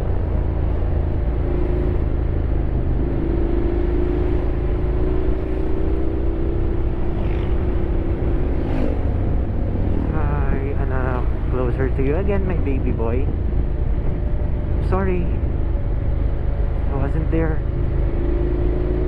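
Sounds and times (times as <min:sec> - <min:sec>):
continuous low rumble: 0:00.0 - 0:19.0.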